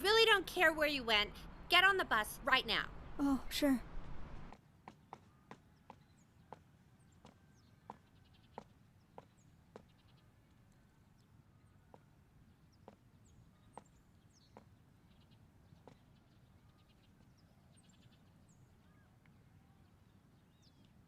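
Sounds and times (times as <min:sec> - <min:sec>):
faint background hum: 0:00.0 - 0:21.0.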